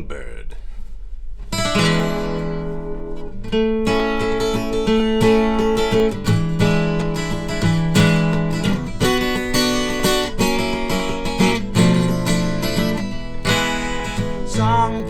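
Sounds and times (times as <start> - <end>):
acoustic guitar strumming chords: 1.5 - 15.0.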